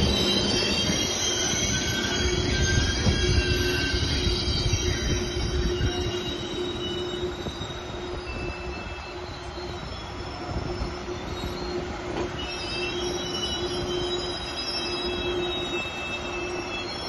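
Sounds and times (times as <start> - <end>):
high-pitched wheel squeals: 0.0 - 17.0
train rumbling past: 0.0 - 17.0.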